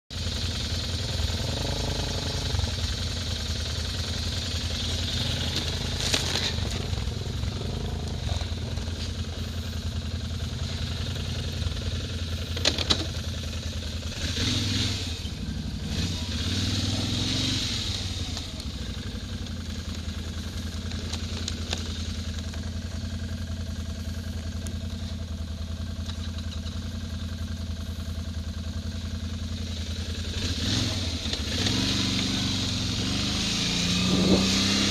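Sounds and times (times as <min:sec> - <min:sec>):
quad bike engine running: 0:00.1 - 0:34.9.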